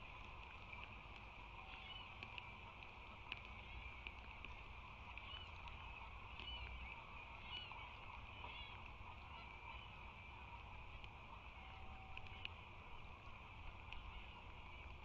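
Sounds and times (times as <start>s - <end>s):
faint ticks: 0.0s - 15.0s.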